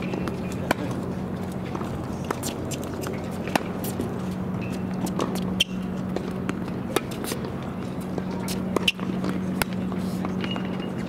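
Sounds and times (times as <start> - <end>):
steady low hum: 0.0 - 11.0
tennis balls struck and bouncing: 0.0 - 11.0.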